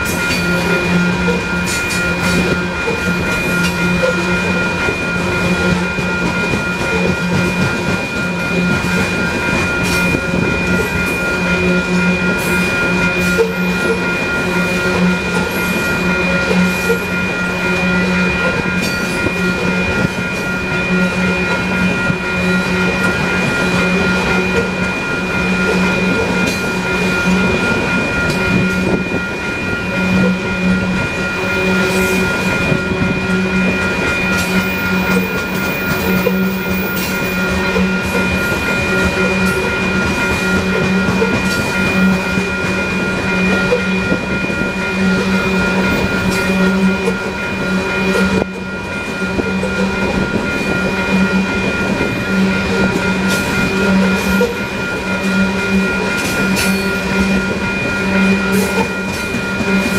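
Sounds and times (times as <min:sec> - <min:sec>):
freight cars rolling on rails: 0:00.0 - 0:59.9
steady high-pitched tones: 0:00.0 - 0:59.9.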